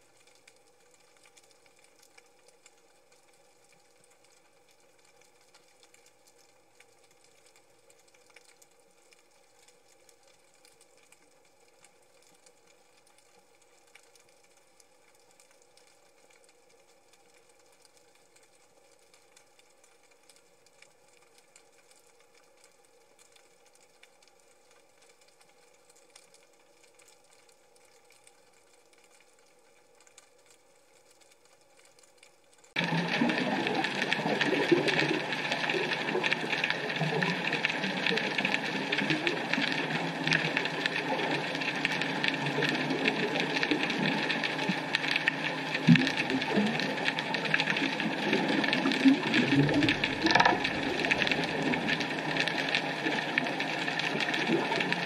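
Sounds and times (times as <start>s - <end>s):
faint steady hum: 0.0s - 55.0s
light crackle: 0.0s - 55.0s.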